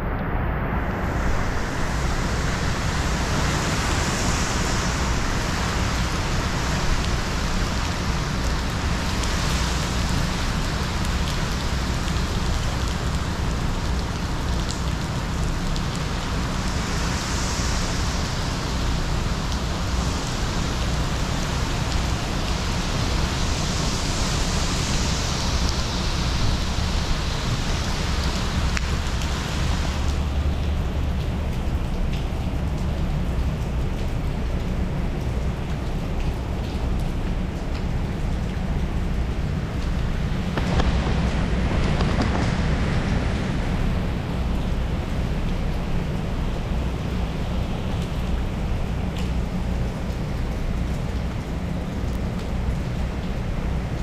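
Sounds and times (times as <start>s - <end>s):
heavy rain pouring: 0.0s - 54.0s
low wind rumble: 0.0s - 54.0s.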